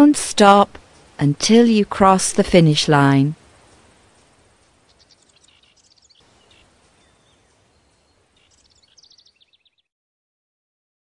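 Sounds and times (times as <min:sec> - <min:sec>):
soft background hiss: 0:00.0 - 0:09.8
birds chirping: 0:00.0 - 0:09.9.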